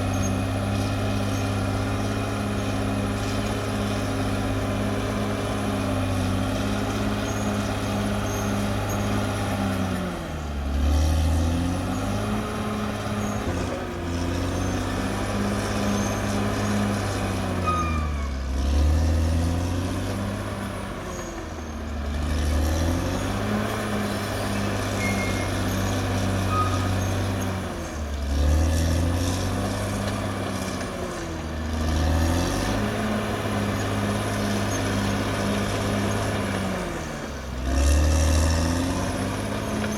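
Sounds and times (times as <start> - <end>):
bulldozer diesel engine lugging: 0.0 - 39.9.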